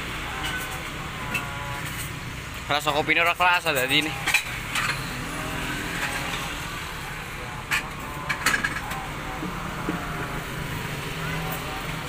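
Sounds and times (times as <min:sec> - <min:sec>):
road traffic engine hum: 0:00.0 - 0:12.0.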